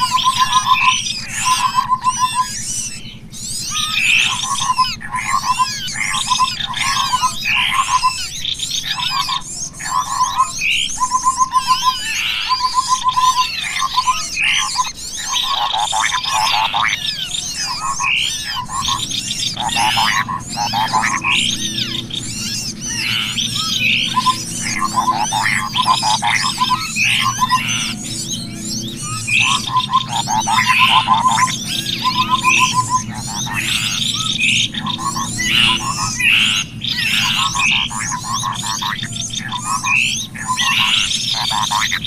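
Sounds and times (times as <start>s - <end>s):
small birds chirping and trilling: 0.0s - 42.0s
steady low hum: 0.0s - 42.0s.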